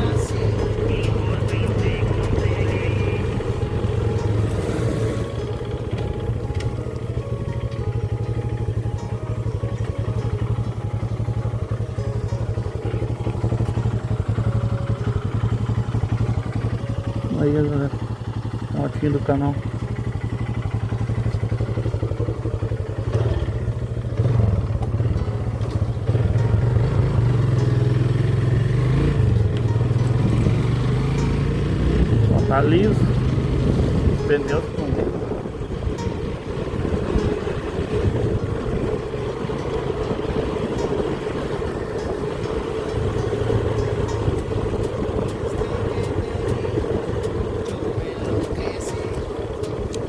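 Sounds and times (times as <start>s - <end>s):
road noise: 0.0s - 50.0s
small motorcycle engine: 0.0s - 50.0s.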